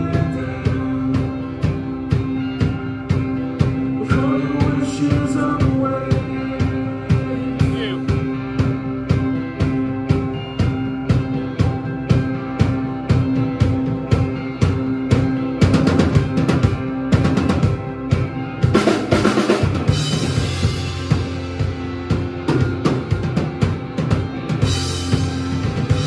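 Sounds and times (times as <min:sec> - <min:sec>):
bass: 0:00.0 - 0:26.0
distorted electric guitars: 0:00.0 - 0:26.0
drum kit beat: 0:00.0 - 0:26.0.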